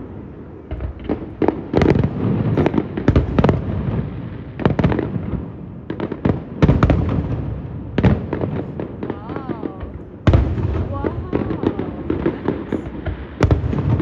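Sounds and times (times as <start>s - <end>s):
fireworks bursts and bangs: 0.0s - 14.0s
fireworks crackle: 0.0s - 14.0s.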